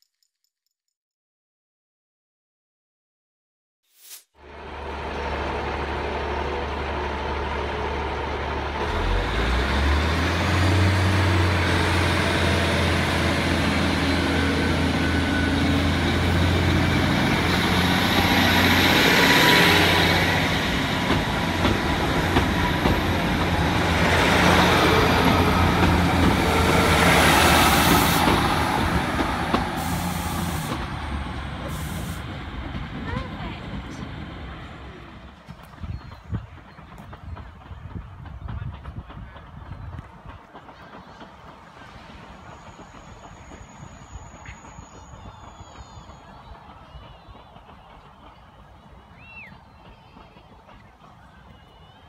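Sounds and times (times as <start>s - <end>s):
train diesel engines running: 4.4s - 52.0s
train wheel noise: 4.4s - 52.0s.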